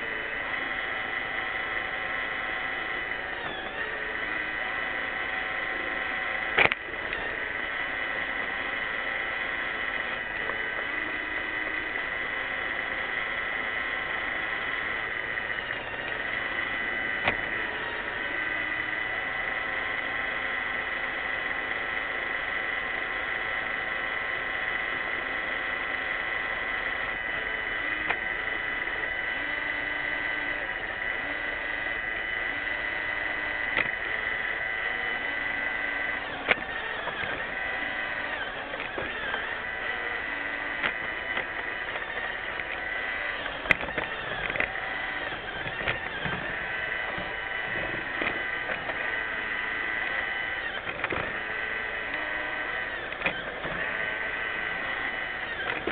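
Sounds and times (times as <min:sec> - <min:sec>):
robot vacuum motor whine: 0:00.0 - 0:55.9.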